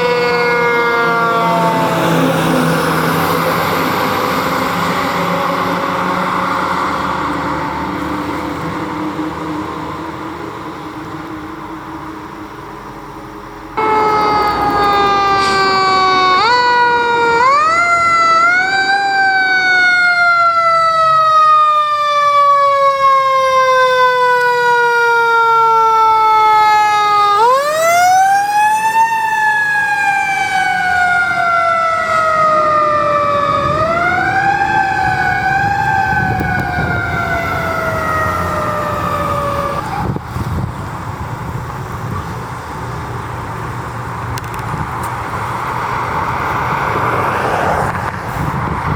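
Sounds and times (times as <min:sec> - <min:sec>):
fire truck siren wailing: 0:00.0 - 0:44.6, 0:45.2 - 0:48.9
truck engine rumble: 0:00.0 - 0:48.9.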